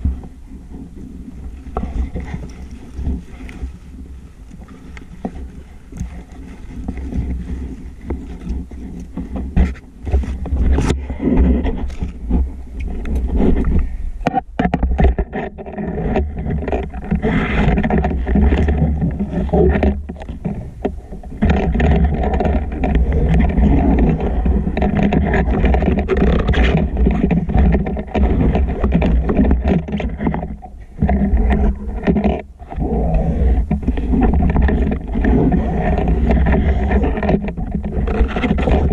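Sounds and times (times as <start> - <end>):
gear scraping and knocking: 0.0 - 38.9
underwater rumble: 0.0 - 38.9.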